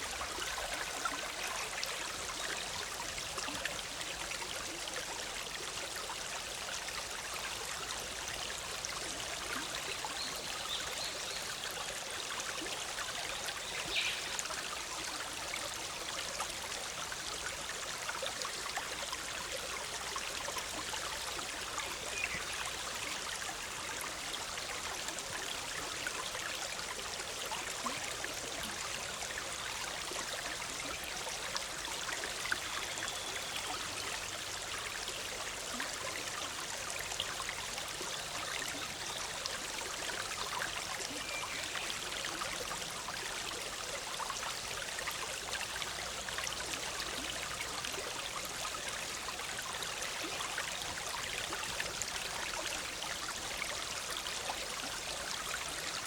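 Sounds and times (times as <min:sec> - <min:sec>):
stream bubbling over rocks: 0:00.0 - 0:56.0.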